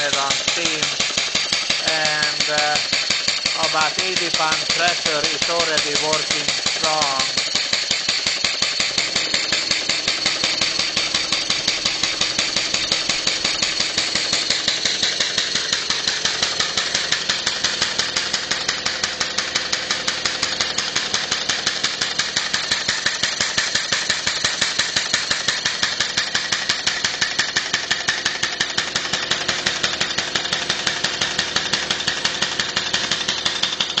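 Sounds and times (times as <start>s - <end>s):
air engine rapid beat: 0.0s - 34.0s.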